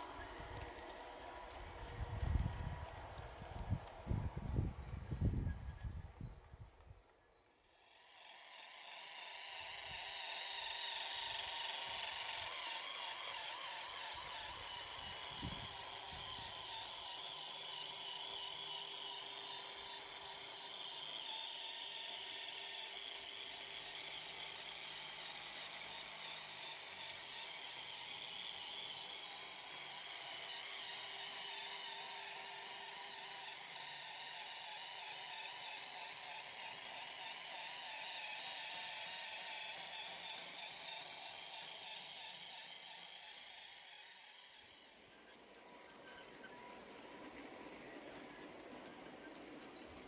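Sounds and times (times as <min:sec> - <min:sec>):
model train motors whirring: 0:00.0 - 0:50.0.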